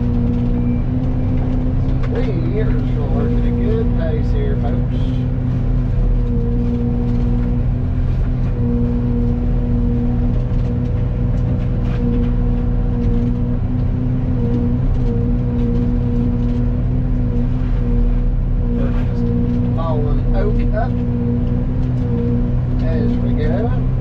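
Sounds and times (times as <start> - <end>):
excavator mulcher drone: 0.0 - 24.0.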